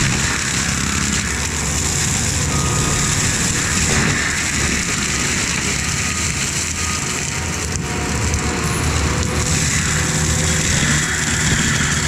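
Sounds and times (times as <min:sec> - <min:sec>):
diesel engine under load: 0:00.0 - 0:12.0
mulcher grinding brush: 0:00.0 - 0:12.0.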